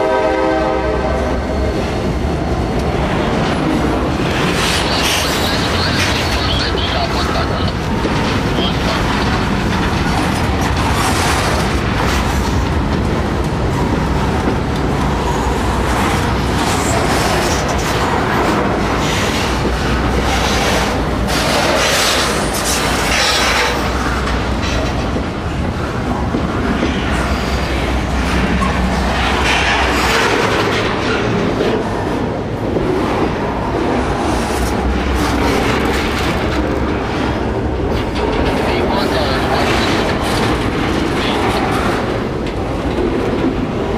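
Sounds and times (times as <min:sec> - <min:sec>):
freight train wheels clacking: 0:00.0 - 0:43.9
train rattling rumble: 0:00.0 - 0:43.9.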